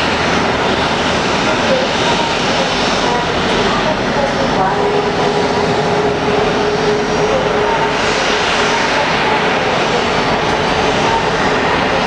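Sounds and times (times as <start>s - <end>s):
faint engine whine: 0.0s - 12.0s
jet engines running: 0.0s - 12.0s.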